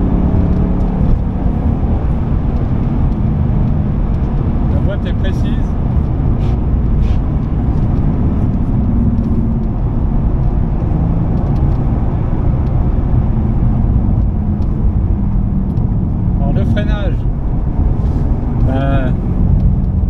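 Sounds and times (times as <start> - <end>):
car engine droning at cruise: 0.0 - 20.0
tyre and road rumble: 0.0 - 20.0.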